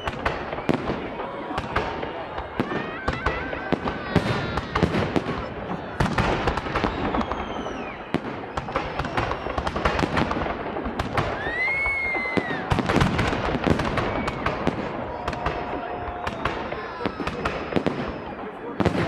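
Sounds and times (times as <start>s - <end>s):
firework whistling: 0.0s - 1.1s, 1.7s - 10.4s, 11.0s - 18.9s
fireworks bangs and crackling: 0.0s - 19.0s.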